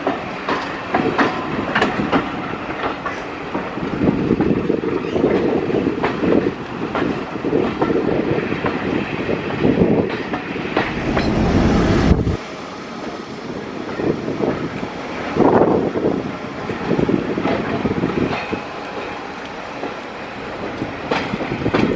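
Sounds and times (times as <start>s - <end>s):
train rumble on board: 0.0s - 21.9s.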